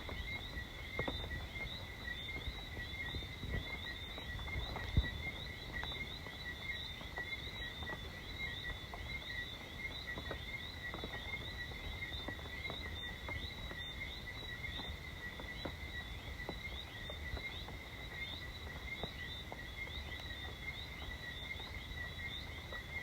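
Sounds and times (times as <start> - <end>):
frogs chorus chirping: 0.0 - 23.0.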